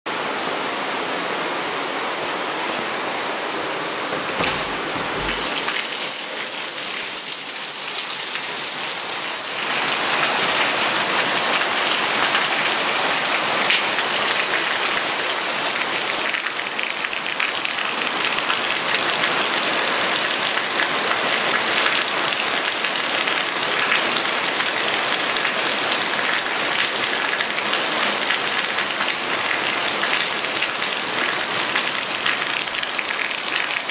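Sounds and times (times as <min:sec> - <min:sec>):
heavy rain falling: 0:00.7 - 0:33.9.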